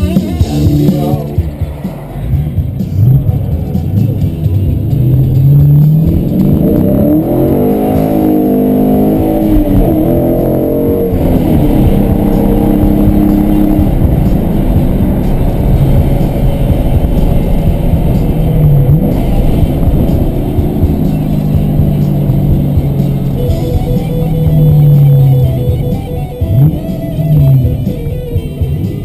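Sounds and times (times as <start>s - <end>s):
car engine revving: 0.0s - 29.0s
car stereo music: 0.0s - 29.0s.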